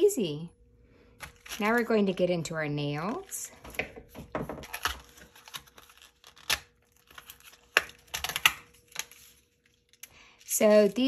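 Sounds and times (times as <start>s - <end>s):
plastic crinkling: 1.1s - 11.0s.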